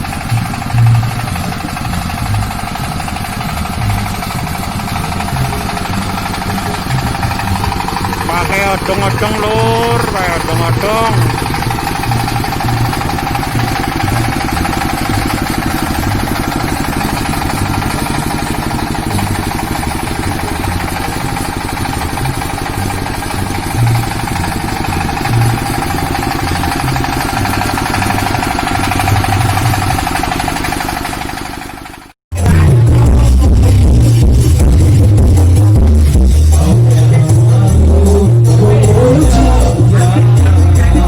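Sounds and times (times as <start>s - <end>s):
engine idling with whine: 0.0s - 41.0s.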